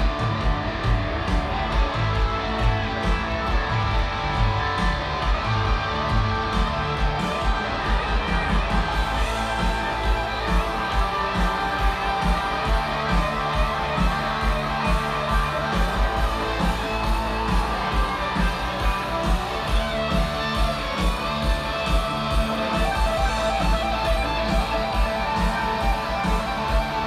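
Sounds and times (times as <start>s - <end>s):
amplified electric guitar: 0.0s - 27.0s
steady drum beat: 0.0s - 27.0s.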